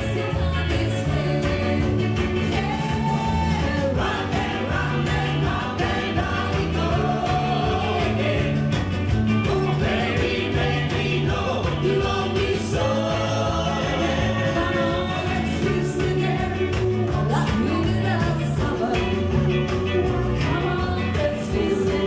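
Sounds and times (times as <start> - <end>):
person singing: 0.0 - 22.0
rock and roll band playing: 0.0 - 22.0.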